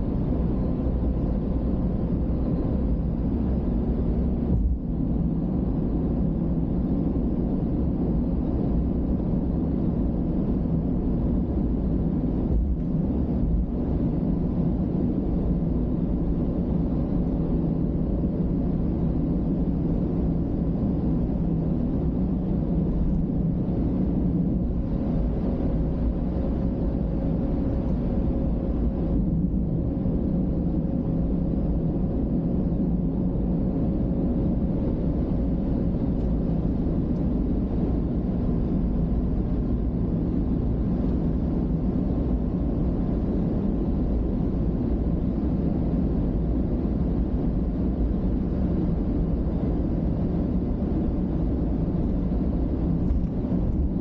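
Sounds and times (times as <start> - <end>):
car road and engine noise: 0.0 - 54.0
faint steady hum: 0.0 - 54.0.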